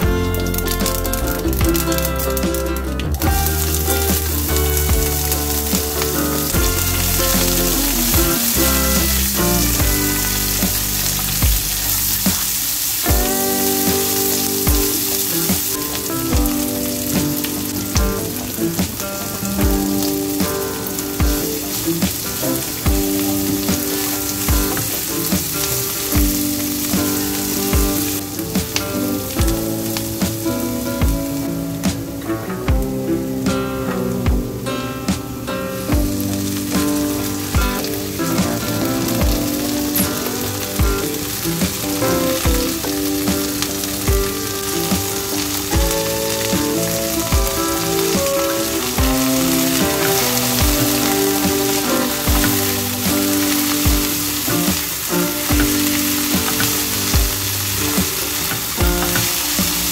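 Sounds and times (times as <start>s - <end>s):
onions sizzling in hot oil: 0.0s - 34.0s, 35.7s - 59.9s
background music with steady beat: 0.0s - 59.9s.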